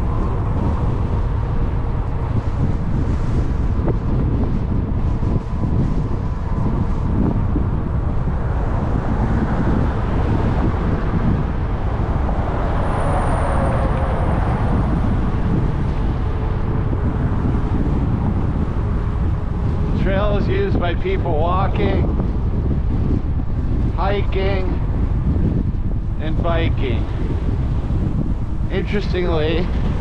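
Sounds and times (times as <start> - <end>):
road traffic passing: 0.0 - 30.0
wind buffeting microphone: 0.0 - 30.0.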